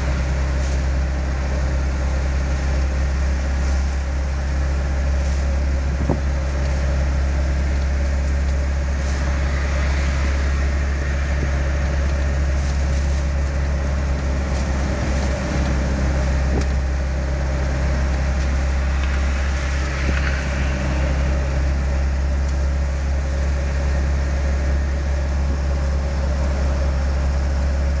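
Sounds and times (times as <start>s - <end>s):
car engine and road drone: 0.0s - 28.0s.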